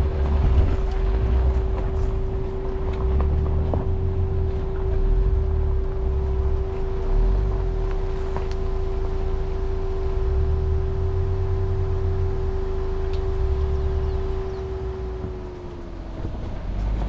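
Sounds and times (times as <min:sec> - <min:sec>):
car engine running: 0:00.0 - 0:17.0
engine whine over rumble: 0:00.0 - 0:17.0.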